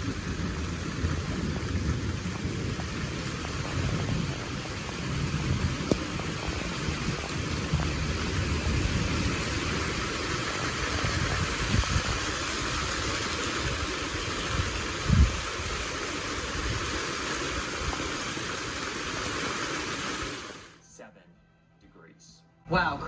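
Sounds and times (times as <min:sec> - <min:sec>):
heavy rain falling: 0:00.0 - 0:20.8.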